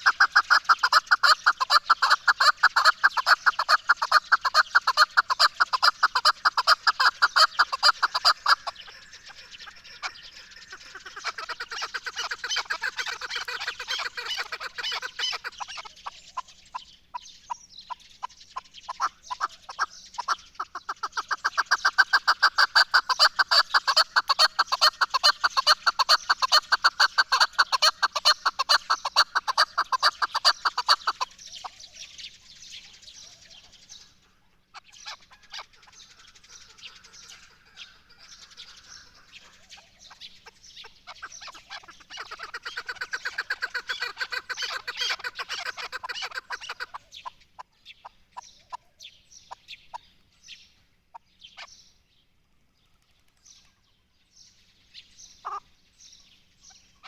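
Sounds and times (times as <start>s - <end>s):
partridge clucking calls: 0.0s - 51.8s, 54.9s - 57.0s.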